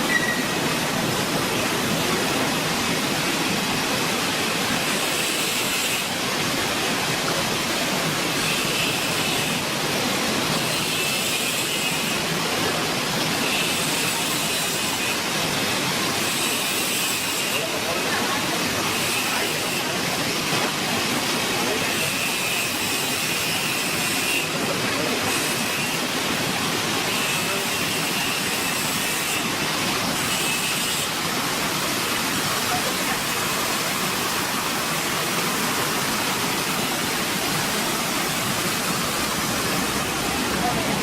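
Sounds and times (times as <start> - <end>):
rushing water: 0.0 - 41.0.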